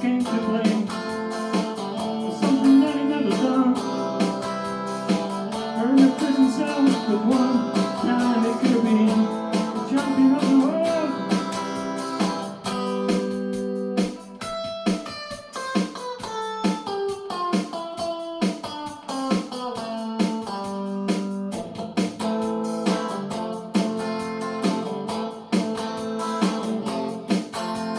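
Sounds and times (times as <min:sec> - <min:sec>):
bending guitar melody: 0:00.0 - 0:27.9
guitar strummed chords: 0:00.0 - 0:27.9.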